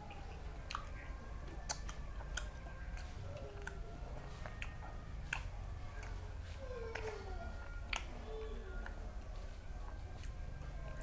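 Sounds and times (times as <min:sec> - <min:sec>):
chewing and lip-smacking: 0:00.0 - 0:11.0.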